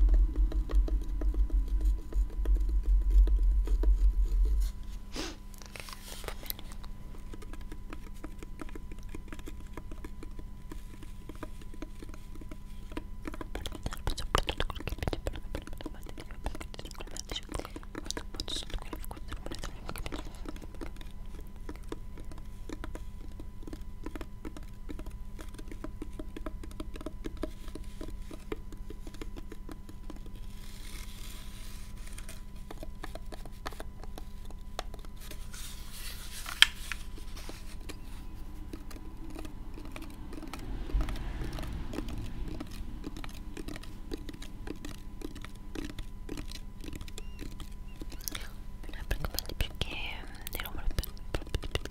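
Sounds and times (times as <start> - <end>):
faint electrical hum: 0.0 - 51.9.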